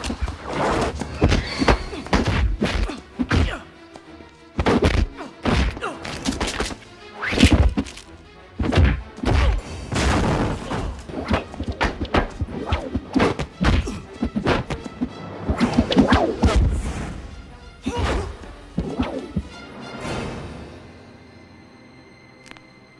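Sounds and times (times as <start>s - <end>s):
action music score: 0.0s - 22.9s.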